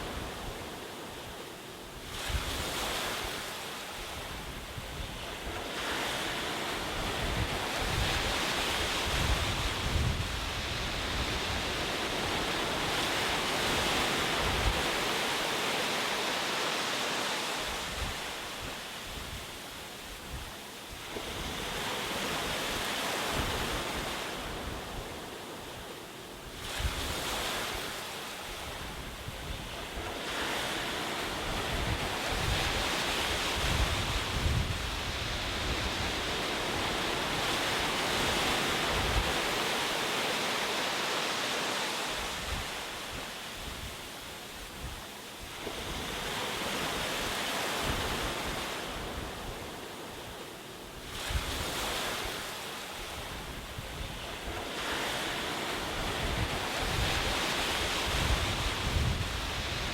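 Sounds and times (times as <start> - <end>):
ocean waves washing ashore: 0.0 - 59.9.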